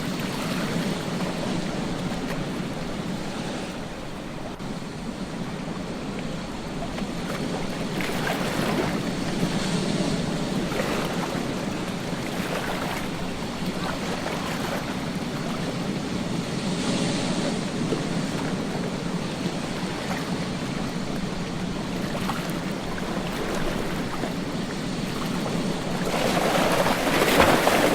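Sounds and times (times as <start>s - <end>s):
waves breaking on beach: 0.0s - 27.9s.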